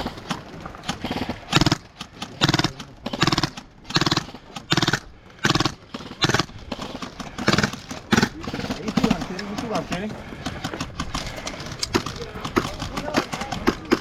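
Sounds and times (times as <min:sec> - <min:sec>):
person breathing heavily: 0:00.0 - 0:14.0.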